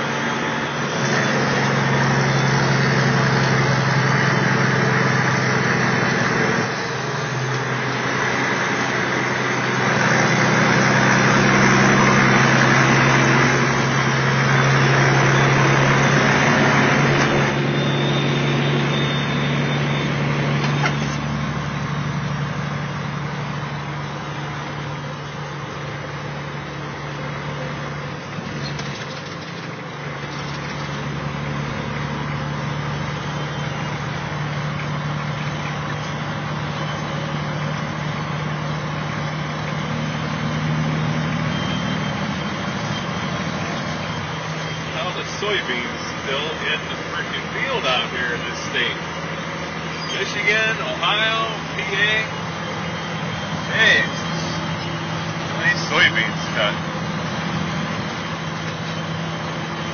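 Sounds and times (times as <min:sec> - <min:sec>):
diesel engine droning: 0:00.0 - 0:59.9
road noise: 0:00.0 - 0:59.9.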